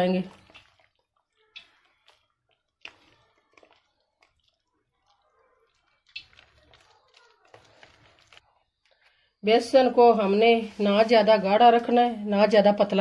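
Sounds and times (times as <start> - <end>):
hand squelching batter: 0.0 - 11.6.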